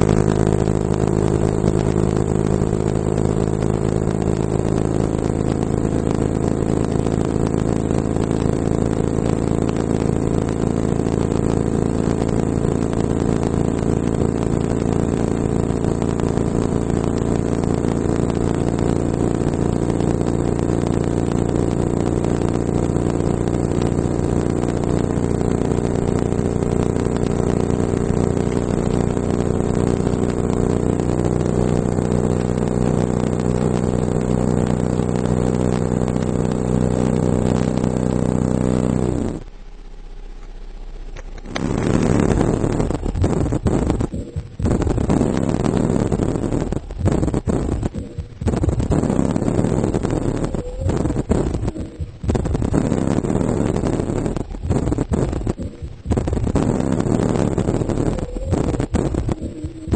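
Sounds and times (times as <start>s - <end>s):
subwoofer playing low bass tone: 0.0s - 59.9s.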